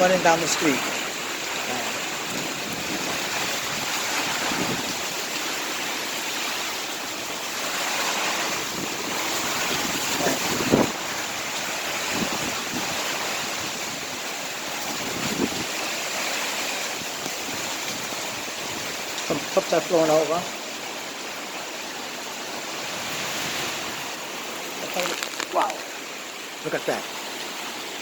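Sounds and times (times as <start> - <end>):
heavy rain: 0.0 - 28.0
runoff water running: 0.0 - 28.0.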